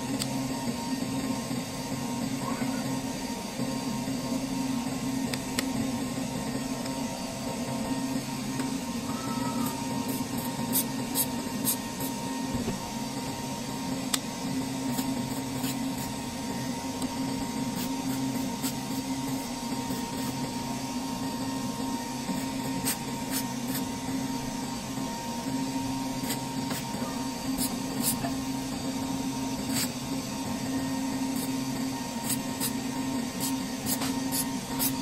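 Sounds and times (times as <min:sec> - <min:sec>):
high whine: 0:00.0 - 0:35.0
low machine hum: 0:00.0 - 0:35.0.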